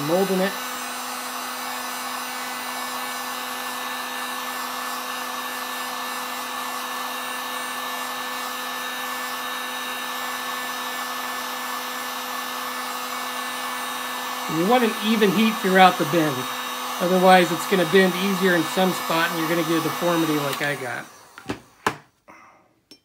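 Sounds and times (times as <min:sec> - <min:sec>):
heat gun hum and air rush: 0:00.0 - 0:21.8.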